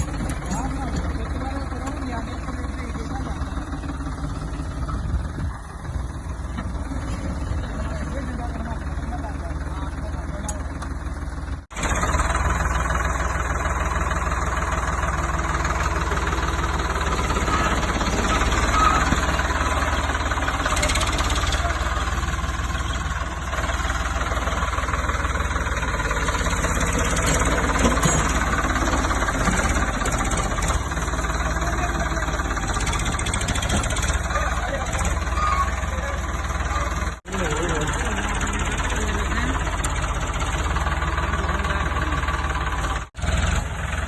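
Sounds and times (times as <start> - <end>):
tractor diesel engine clattering: 0.0 - 44.0.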